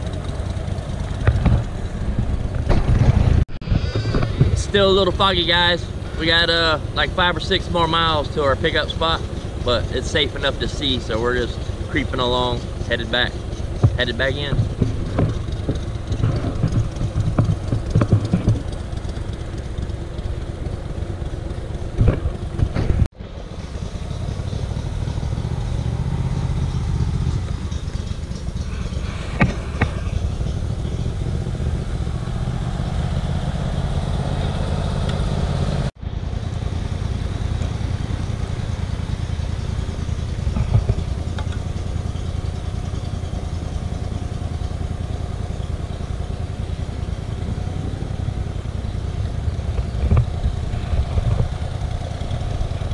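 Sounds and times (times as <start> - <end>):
boat motor running: 0.0 - 3.4, 4.0 - 52.9.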